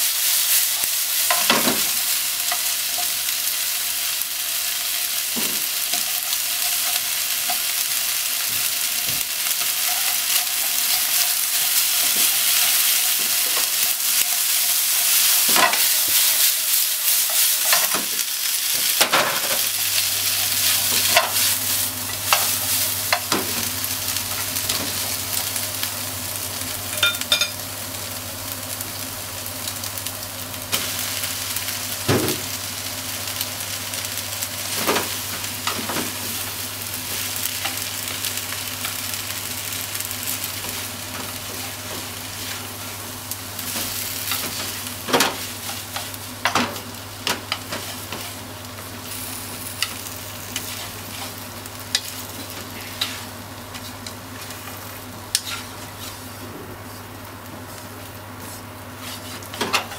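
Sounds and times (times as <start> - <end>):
food sizzling in frying pan: 0.0 - 59.9.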